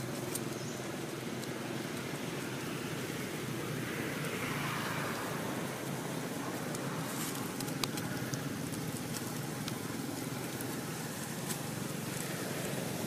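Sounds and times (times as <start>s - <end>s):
dry leaves crackling: 0.0s - 13.0s
outdoor background rumble: 0.0s - 13.0s.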